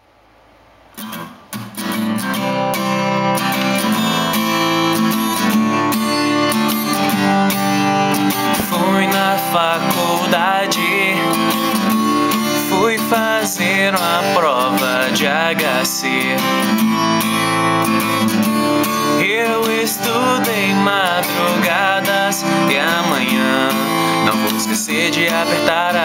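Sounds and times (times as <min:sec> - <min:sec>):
strummed acoustic guitar: 0:01.0 - 0:26.0
wavering melody line: 0:03.3 - 0:26.0.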